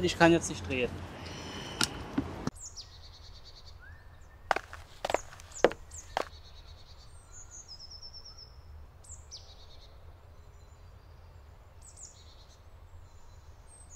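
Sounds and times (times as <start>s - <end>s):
songbirds chirping: 0.0s - 13.9s.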